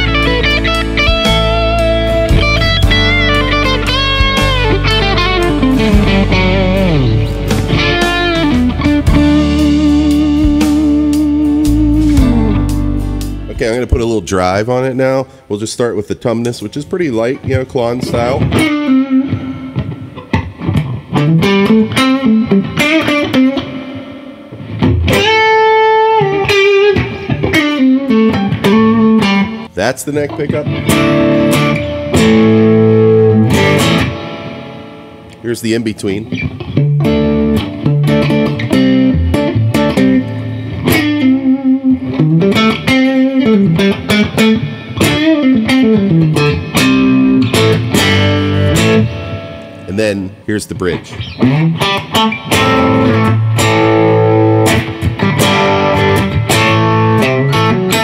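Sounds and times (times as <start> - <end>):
overdriven electric guitar lead: 0.0 - 14.6, 17.2 - 58.0.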